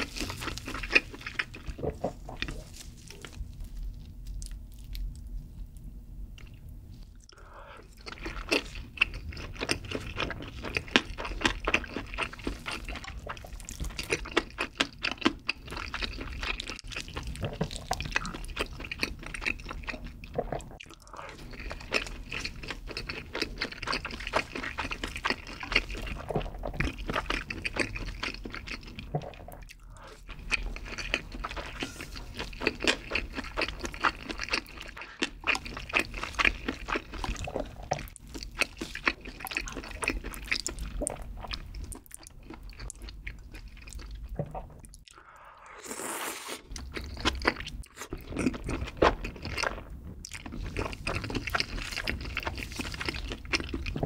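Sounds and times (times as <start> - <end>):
wet chewing and smacking: 0.0 - 45.7, 46.6 - 54.0.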